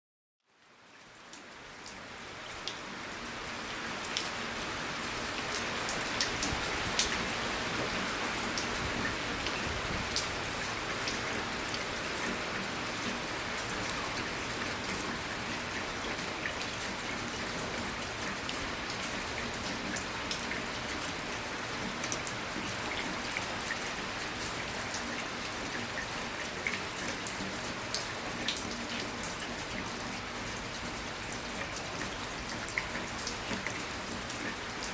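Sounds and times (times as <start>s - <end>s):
steady rain: 0.5s - 34.9s.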